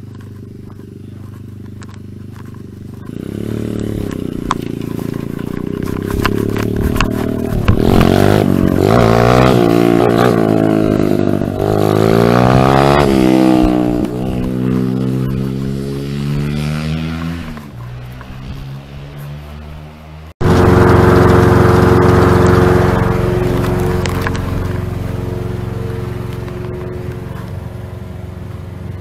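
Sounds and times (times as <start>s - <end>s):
vehicle engine accelerating: 0.0s - 29.0s.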